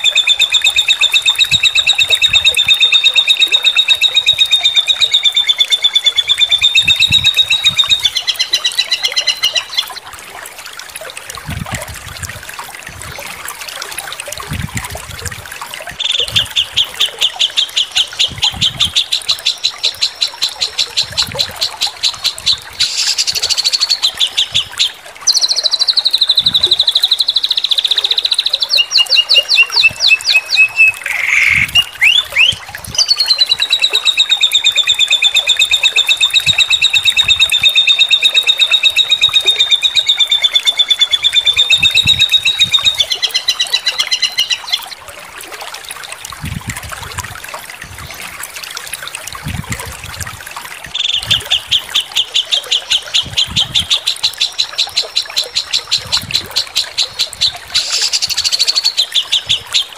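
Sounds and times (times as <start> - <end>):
songbird singing trills: 0.0 - 10.0, 15.9 - 45.0, 50.9 - 59.9.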